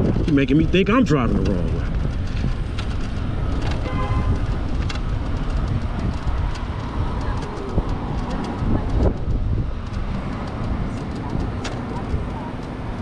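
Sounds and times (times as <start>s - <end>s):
city street traffic: 0.0s - 13.0s
wind rushing over microphone: 0.0s - 13.0s
scattered clicks: 0.2s - 13.0s.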